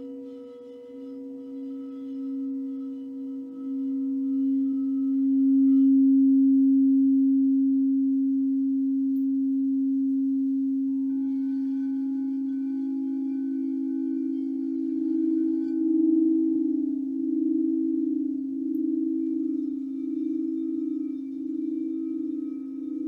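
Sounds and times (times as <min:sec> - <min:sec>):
higher-pitched singing bowl: 0:00.0 - 0:23.0
singing bowl ringing low tone: 0:00.0 - 0:23.0.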